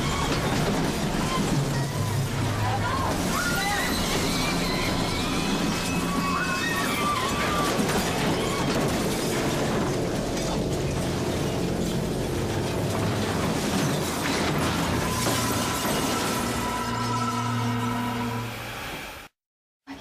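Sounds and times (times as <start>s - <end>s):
train crash with clattering wreckage: 0.0s - 18.4s.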